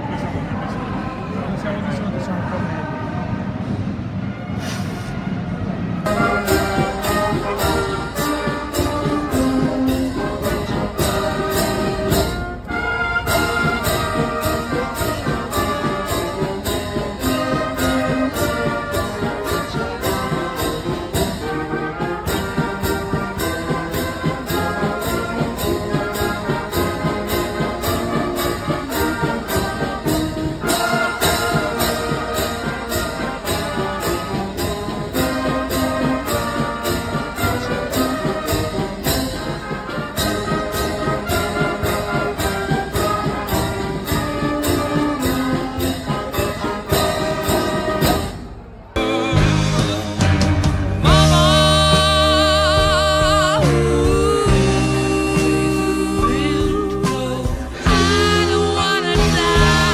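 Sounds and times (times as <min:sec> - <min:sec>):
brass band playing a march: 0:00.0 - 0:59.9.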